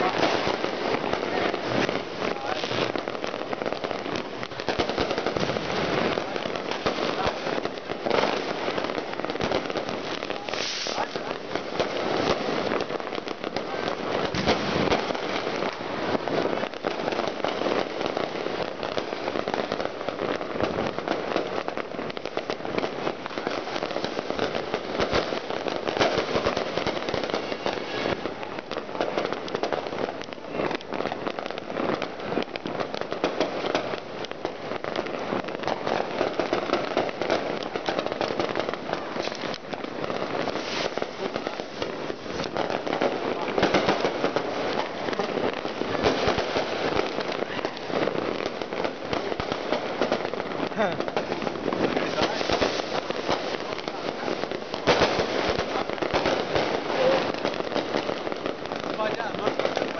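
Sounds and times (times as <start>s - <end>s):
fireworks and firecrackers banging: 0.0s - 59.9s.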